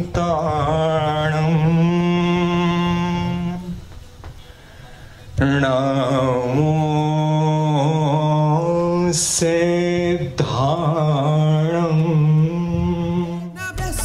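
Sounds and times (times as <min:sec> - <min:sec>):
man chanting: 0:00.0 - 0:03.8, 0:05.4 - 0:14.0.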